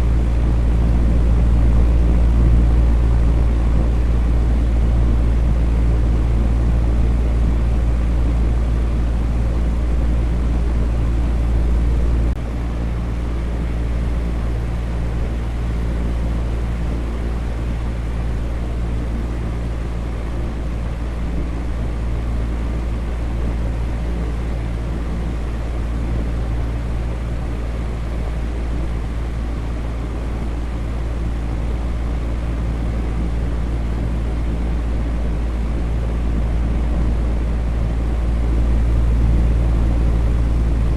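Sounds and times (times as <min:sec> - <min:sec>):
electric fan whooshing: 0:00.0 - 0:40.9.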